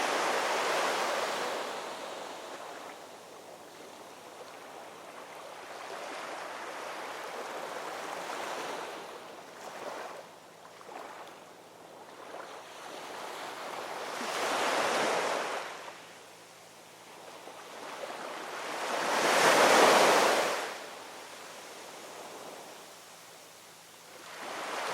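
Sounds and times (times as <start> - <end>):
surf hiss: 0.0 - 24.9.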